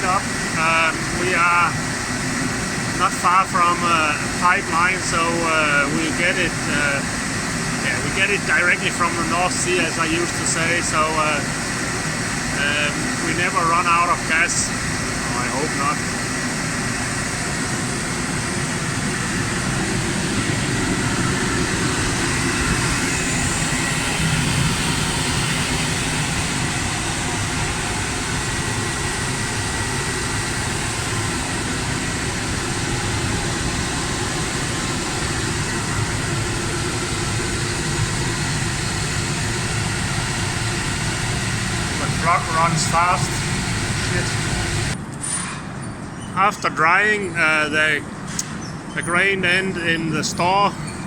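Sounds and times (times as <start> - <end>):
machinery running: 0.0 - 51.0.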